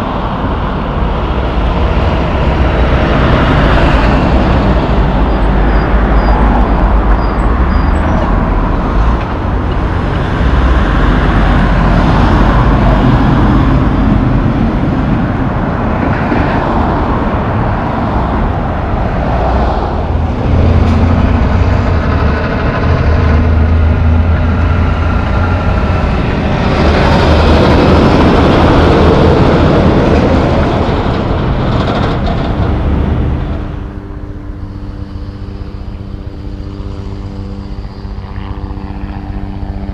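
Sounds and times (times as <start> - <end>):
trucks and cars passing: 0.0 - 39.9.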